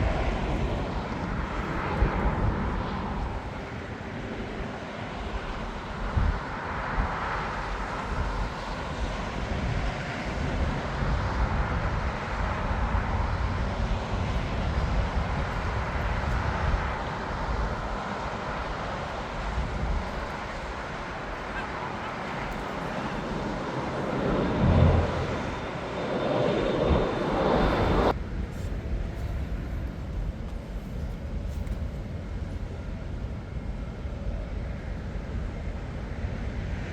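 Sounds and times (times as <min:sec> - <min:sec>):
jet airliner engines running: 0:00.0 - 0:36.9.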